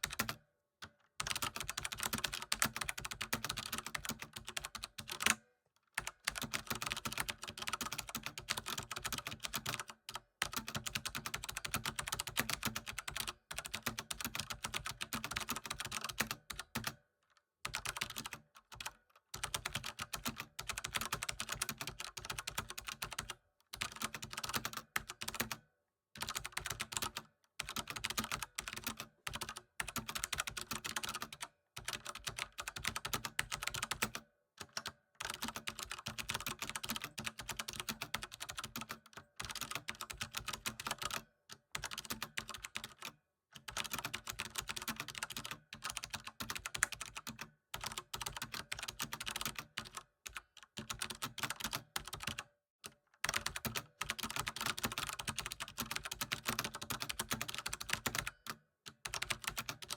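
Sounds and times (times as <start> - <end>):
computer keyboard typing: 0.0 - 5.4, 6.0 - 17.0, 17.7 - 25.6, 26.2 - 59.9.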